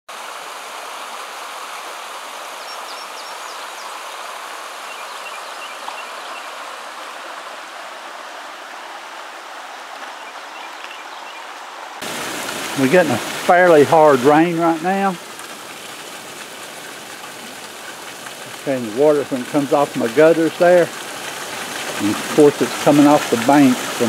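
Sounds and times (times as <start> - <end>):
creek rushing over rocks: 0.1 - 24.0.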